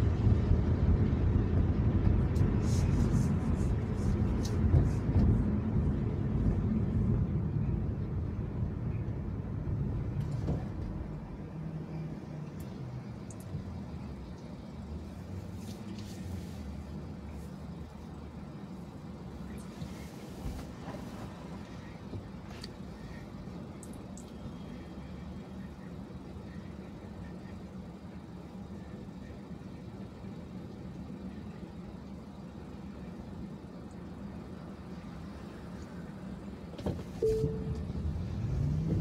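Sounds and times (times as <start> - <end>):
road noise inside car: 0.0 - 39.0.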